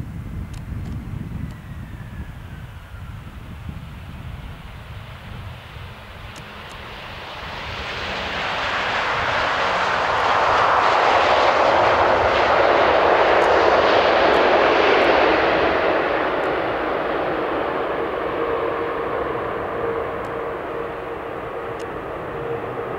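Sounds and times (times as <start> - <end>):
jet engines rushing: 0.1 - 22.9.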